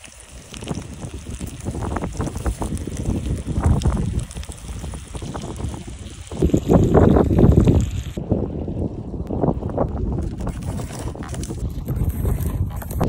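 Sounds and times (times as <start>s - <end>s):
log fire crackling: 0.0s - 13.0s
wind buffeting microphone: 0.3s - 13.0s.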